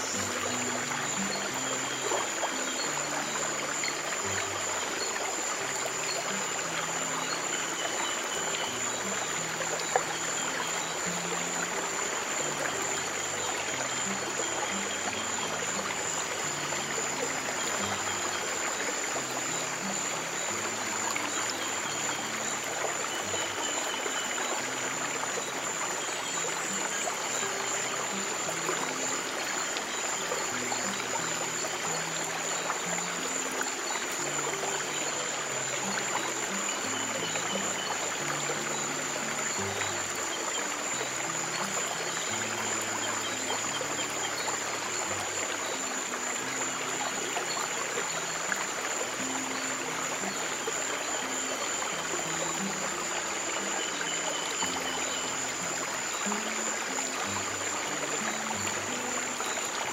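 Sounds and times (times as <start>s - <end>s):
soft low music notes: 0.0s - 59.9s
water running in a stream: 0.0s - 59.9s.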